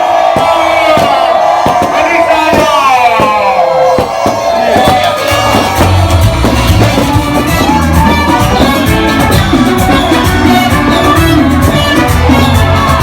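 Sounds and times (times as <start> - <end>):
heavy bass line: 0.0 - 13.0
loud dance music: 0.0 - 13.0
party crowd voices: 0.0 - 13.0.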